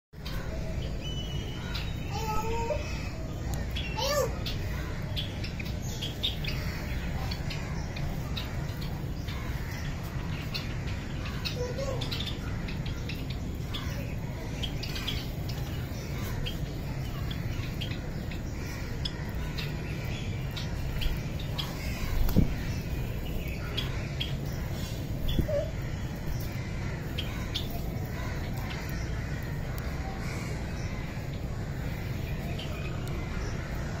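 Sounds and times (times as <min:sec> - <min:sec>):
sparrows chirping: 0:00.2 - 0:34.0
steady low hum: 0:00.2 - 0:34.0.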